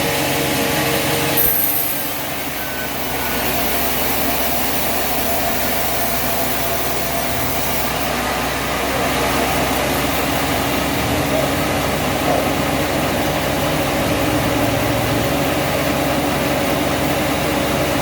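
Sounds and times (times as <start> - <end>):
heavy engine running: 0.0 - 18.0.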